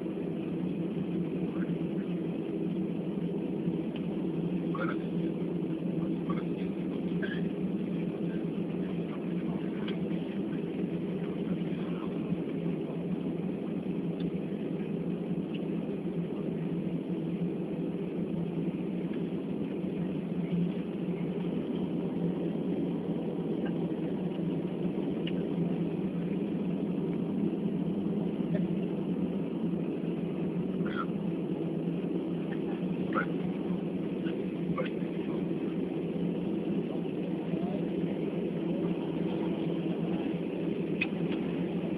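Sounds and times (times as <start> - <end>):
airliner cabin hum: 0.0 - 41.9.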